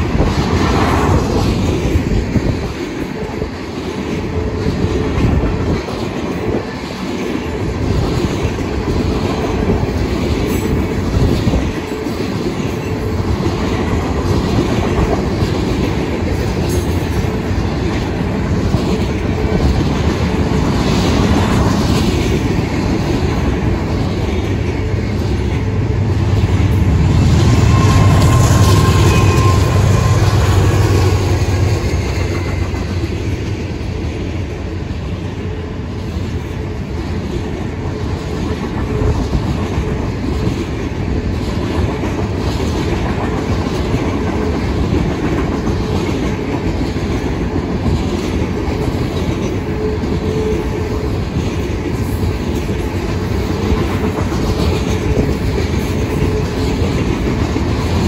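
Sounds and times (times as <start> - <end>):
diesel locomotive rumble: 0.0 - 58.0
train wheels clickety-clack: 0.0 - 58.0.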